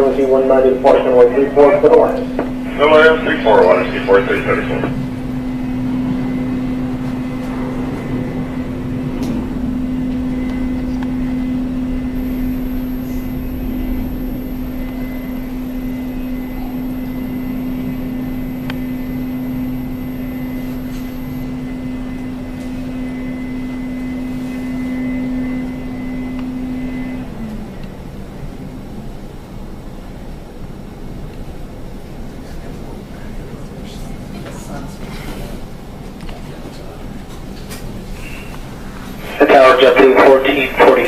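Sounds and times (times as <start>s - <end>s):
jet engines at takeoff: 0.0s - 41.0s.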